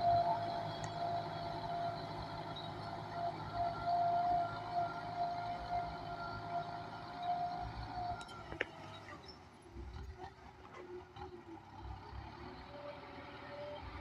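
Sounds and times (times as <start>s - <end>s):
tractor diesel engine rumble: 0.0s - 14.0s.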